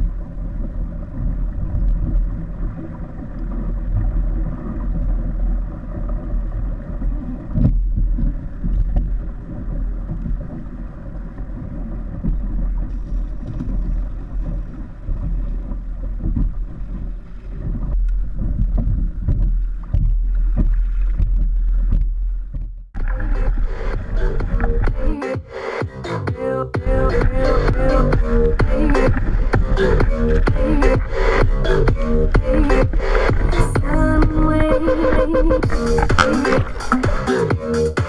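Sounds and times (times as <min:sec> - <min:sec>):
water rushing past kayak: 0:00.0 - 0:21.3, 0:26.8 - 0:38.0
wind buffeting microphone: 0:00.0 - 0:25.1, 0:26.8 - 0:37.3.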